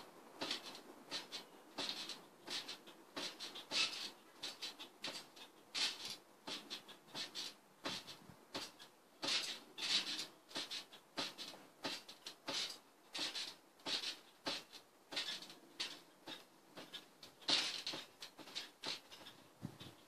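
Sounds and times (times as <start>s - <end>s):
trampoline mat and springs swishing: 0.0s - 20.0s.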